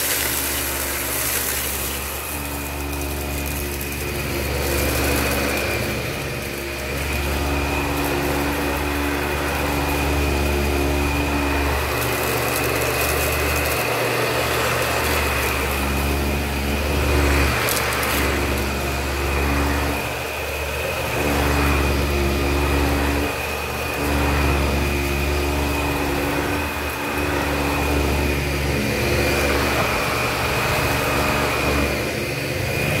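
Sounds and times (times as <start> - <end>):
vacuum cleaner motor whine: 0.0 - 33.0.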